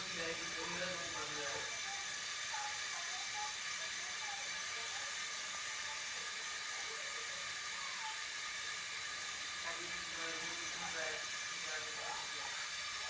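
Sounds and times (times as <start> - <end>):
milk boiling with hiss: 0.0 - 13.0.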